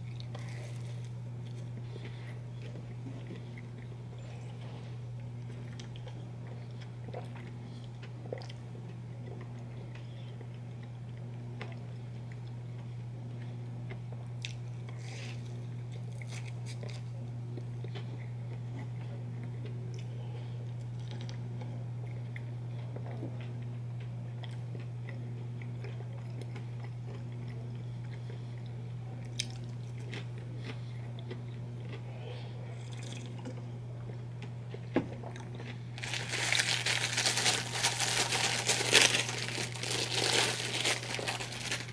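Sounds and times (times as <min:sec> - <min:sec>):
crunchy chewing: 0:00.0 - 0:41.9
steady low hum: 0:00.0 - 0:41.9.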